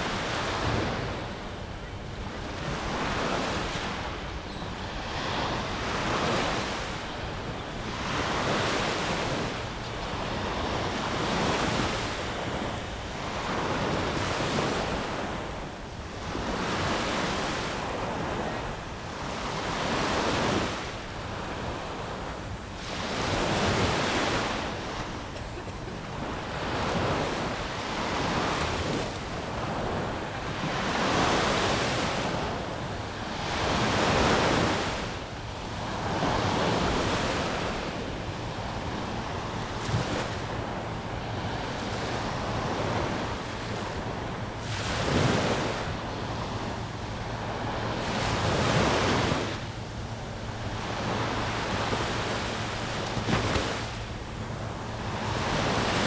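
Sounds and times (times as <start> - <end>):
small waves breaking on beach: 0.0 - 1.6, 2.2 - 56.0.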